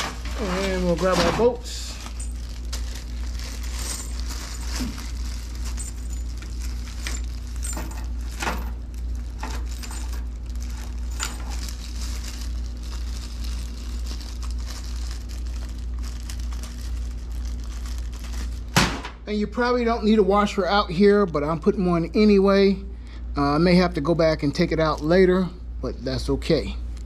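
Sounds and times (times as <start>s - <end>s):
low hum: 0.0s - 23.6s.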